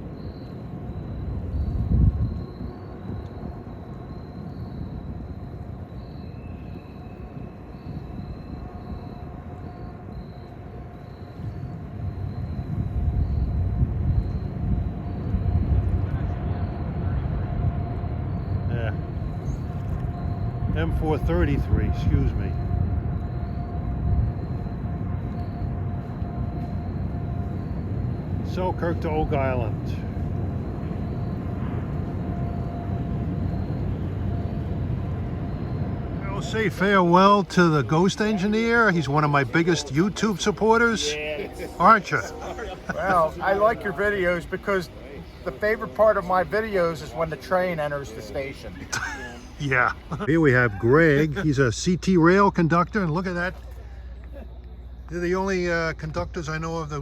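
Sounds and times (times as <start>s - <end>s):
faint steady whine: 0.0s - 57.0s
freight train rumbling: 0.0s - 57.0s.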